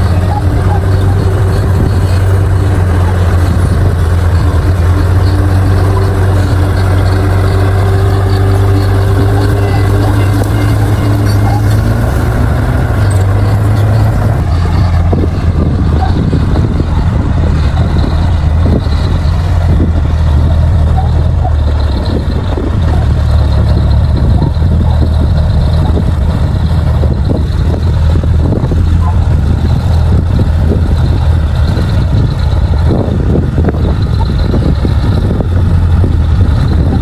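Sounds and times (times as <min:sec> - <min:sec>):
bulldozer diesel engine humming: 0:00.0 - 0:37.0.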